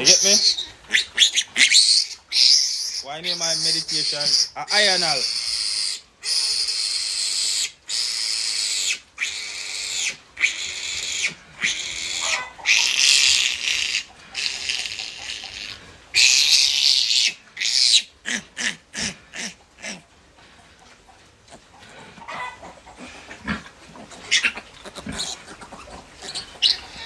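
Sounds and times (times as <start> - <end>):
piglet squealing: 0.0 - 20.0, 22.2 - 22.8, 23.5 - 27.0.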